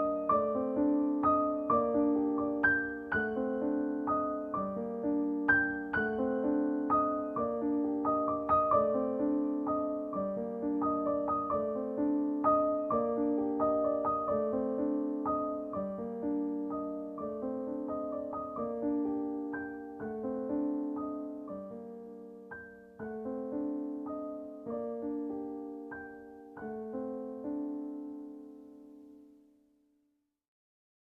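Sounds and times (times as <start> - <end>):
gentle piano music: 0.0 - 29.7.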